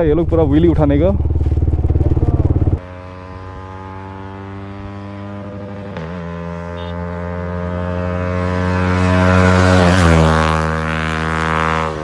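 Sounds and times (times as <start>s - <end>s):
motorcycle passing at speed: 0.0s - 12.0s.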